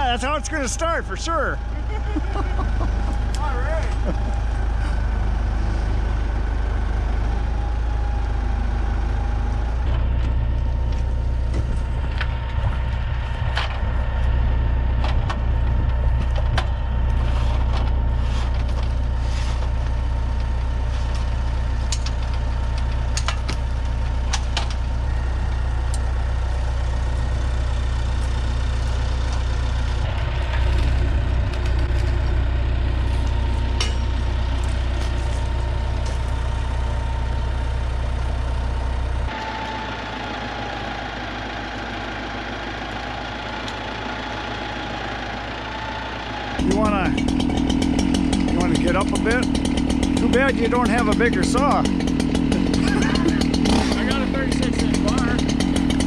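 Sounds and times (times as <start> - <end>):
heavy engine idling: 0.0 - 56.0.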